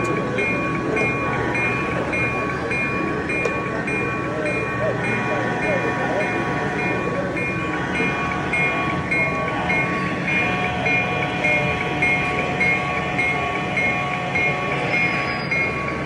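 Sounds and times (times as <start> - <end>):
model locomotive engine sound: 0.0 - 16.0.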